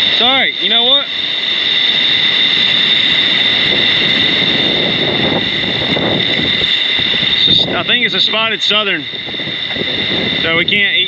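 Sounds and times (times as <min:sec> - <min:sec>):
high-pitched whine: 0:00.0 - 0:11.0
surf rushing in shallows: 0:00.0 - 0:11.0
wind on microphone: 0:00.0 - 0:11.0.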